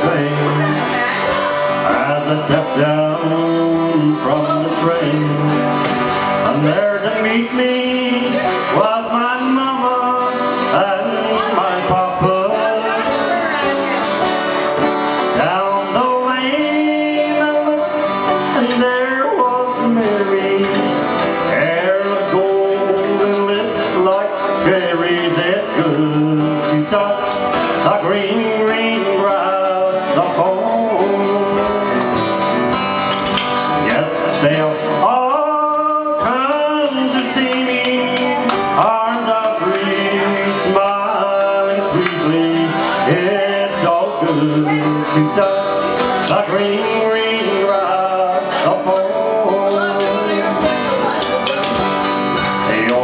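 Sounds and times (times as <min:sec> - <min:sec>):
acoustic guitars playing: 0:00.0 - 0:53.0
man singing into a microphone: 0:00.0 - 0:53.0.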